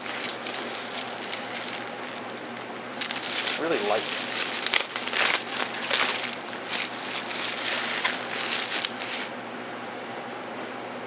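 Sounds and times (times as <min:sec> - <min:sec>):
packaging rustling and crinkling: 0:00.0 - 0:09.5.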